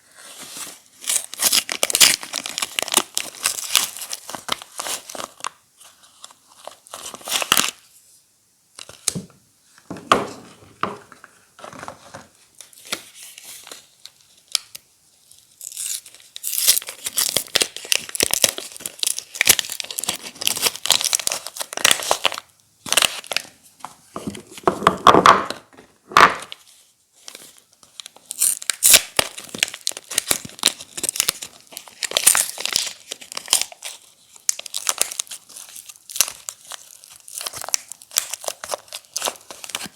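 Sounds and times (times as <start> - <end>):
wrappers crinkling and tearing: 0.2 - 7.8, 12.6 - 23.6, 26.4 - 39.9.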